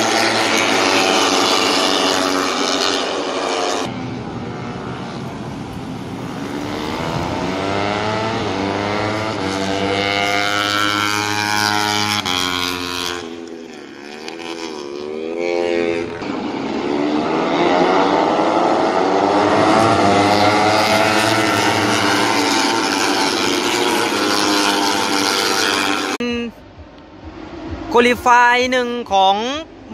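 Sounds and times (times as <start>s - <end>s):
racing motorcycles passing: 0.0s - 29.9s.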